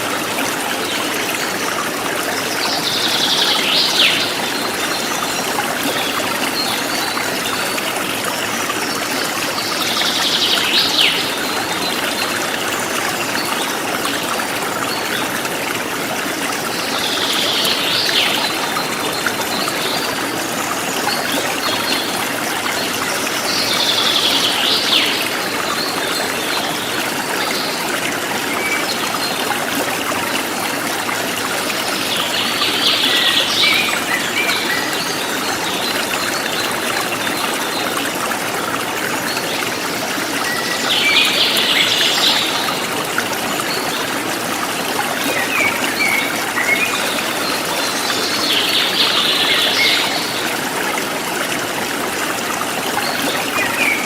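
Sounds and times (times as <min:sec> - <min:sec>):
forest stream running: 0:00.0 - 0:54.0.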